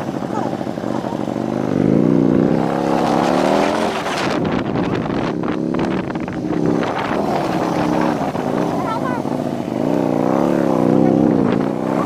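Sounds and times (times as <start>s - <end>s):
motorcycle engine revving: 0.0s - 12.0s
wind buffeting microphone: 0.0s - 12.0s.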